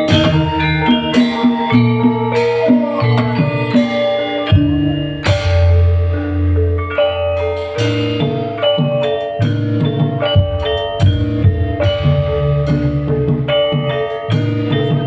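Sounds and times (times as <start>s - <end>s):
strong bass line: 0.0s - 8.7s, 9.3s - 15.0s
drums: 0.0s - 15.0s
live band playing: 0.0s - 15.0s
quick melodic notes: 0.0s - 15.0s.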